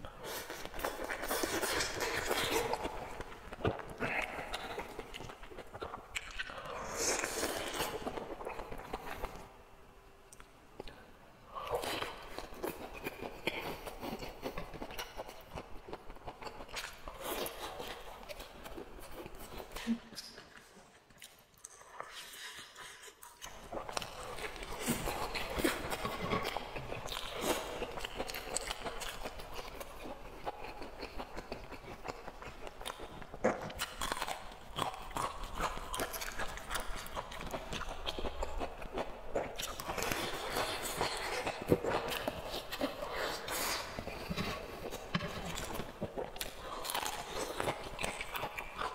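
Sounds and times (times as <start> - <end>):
person chewing crunchy food: 0.2 - 9.5, 11.5 - 48.9.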